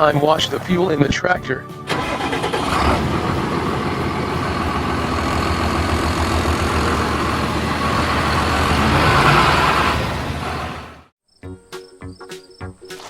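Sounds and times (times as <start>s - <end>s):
heavy vehicle engine rumbling: 0.0s - 11.1s.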